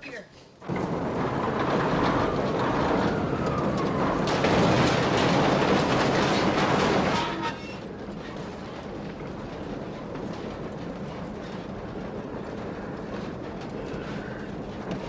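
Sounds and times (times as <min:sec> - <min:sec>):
heavy machinery rumbling and clanking: 0:00.6 - 0:15.0.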